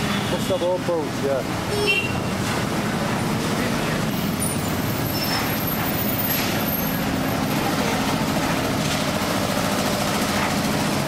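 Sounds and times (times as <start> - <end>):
street noise: 0.0 - 11.0
engine drone: 1.0 - 11.0.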